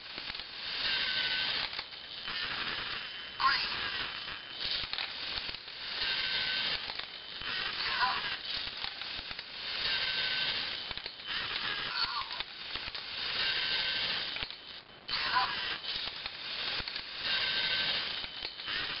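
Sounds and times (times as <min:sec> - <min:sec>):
crackling hissing noise bursts: 0:00.0 - 0:19.0.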